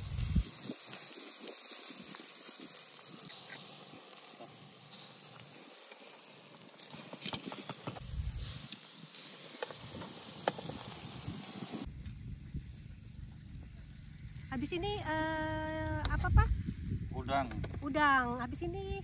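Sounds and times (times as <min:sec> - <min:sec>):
food sizzling on grill: 0:00.0 - 0:11.9, 0:13.7 - 0:17.4
sharp crackles: 0:00.0 - 0:18.3.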